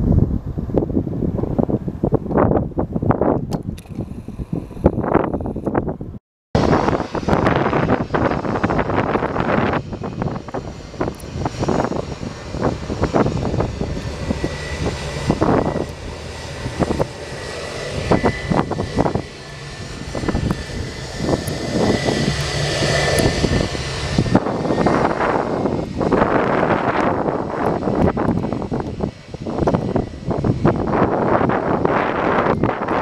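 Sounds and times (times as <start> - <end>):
wind buffeting microphone: 0.0 - 33.0
jet engines idling with whine: 6.6 - 33.0.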